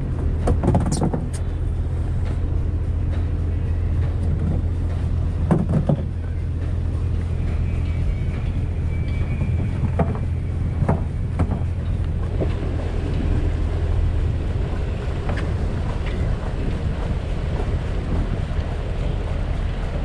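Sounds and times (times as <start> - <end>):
boat engine droning: 0.0 - 20.0
wind buffeting microphone: 0.0 - 20.0.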